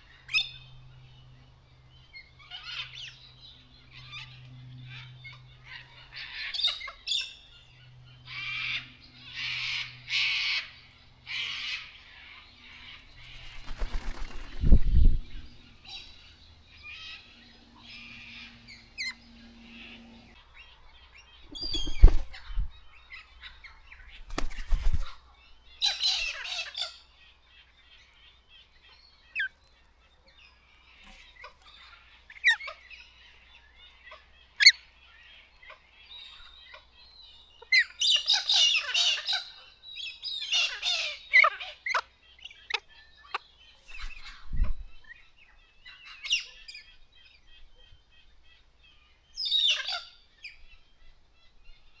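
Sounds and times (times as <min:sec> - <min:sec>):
birds screeching: 0:02.0 - 0:52.0.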